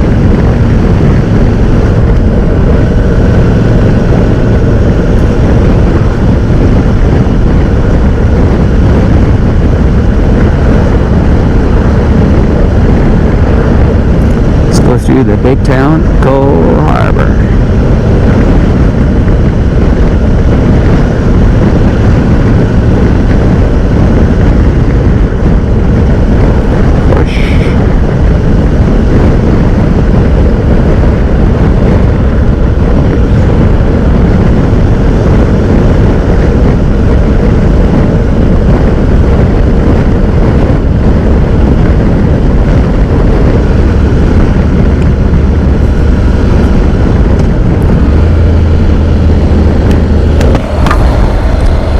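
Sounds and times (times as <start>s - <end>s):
motorcycle engine drone: 0.0s - 51.9s
wind and road rush: 0.0s - 51.9s.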